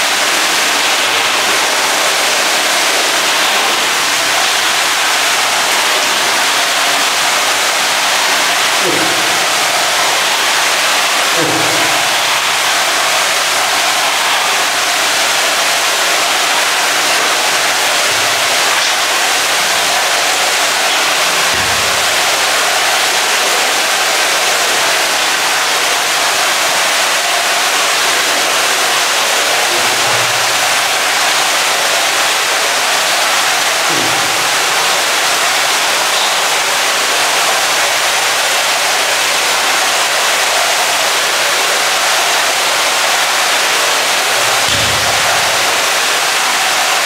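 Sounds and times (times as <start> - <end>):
loud rushing noise: 0.0 - 38.0, 43.6 - 47.0.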